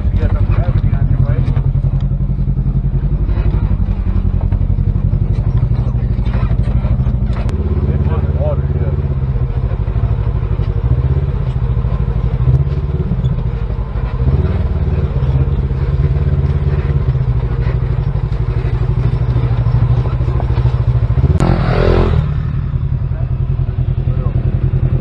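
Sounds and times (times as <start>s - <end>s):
utility vehicle engine running: 0.0s - 25.0s.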